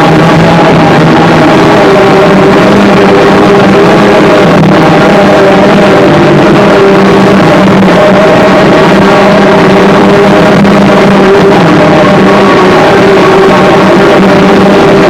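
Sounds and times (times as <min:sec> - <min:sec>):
harsh distorted noise music: 0:00.0 - 0:15.0
steady droning tones: 0:00.0 - 0:15.0.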